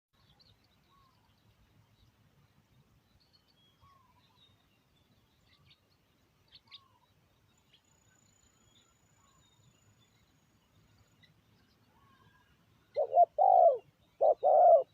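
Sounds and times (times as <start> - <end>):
small birds chirping: 0.2 - 14.9.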